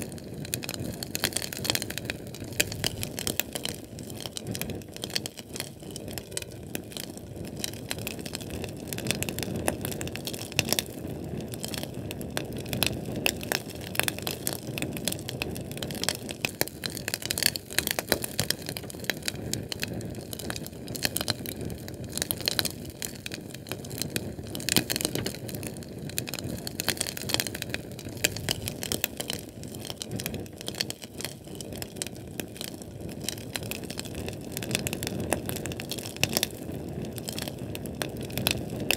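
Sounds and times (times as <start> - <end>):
fire crackling and popping: 0.0 - 38.9
fire roaring: 0.0 - 38.9.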